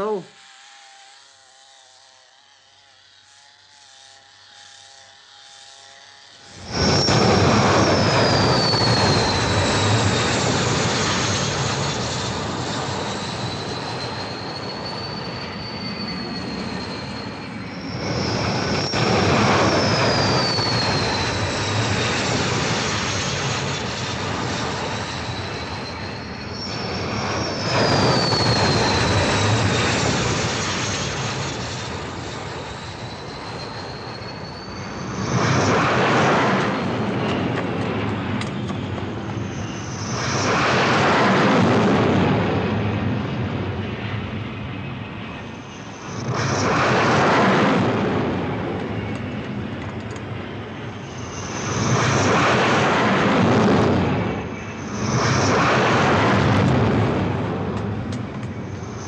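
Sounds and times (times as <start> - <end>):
high turbine whine: 0.0 - 59.0
jet aircraft launching: 6.4 - 59.0.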